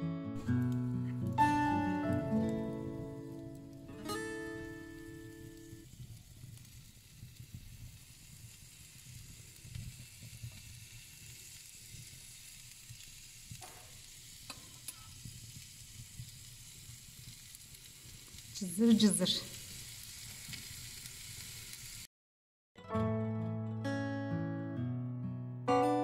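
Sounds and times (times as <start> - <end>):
food sizzling in a pan: 0.4 - 22.1.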